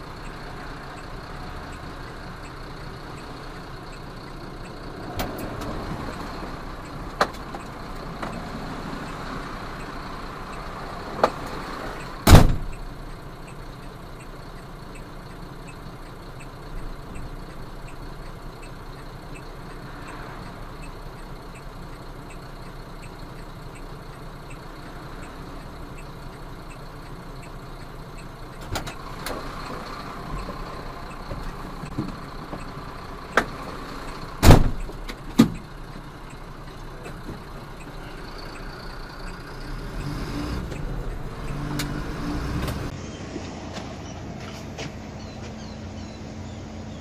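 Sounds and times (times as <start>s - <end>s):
truck engine running: 0.0s - 47.0s.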